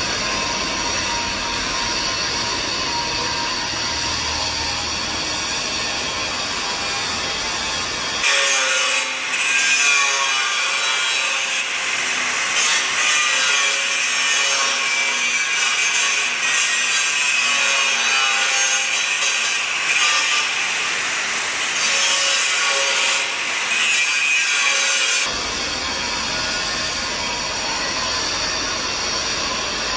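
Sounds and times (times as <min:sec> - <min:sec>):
angle grinder grinding steel: 0:00.0 - 0:29.9
low shop hum: 0:00.0 - 0:29.9.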